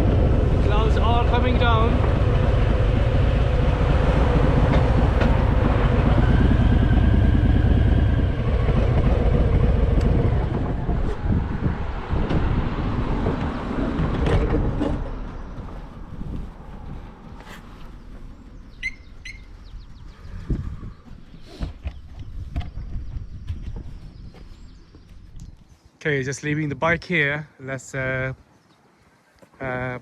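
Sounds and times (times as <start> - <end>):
motorcycle engine rumble: 0.0 - 25.6.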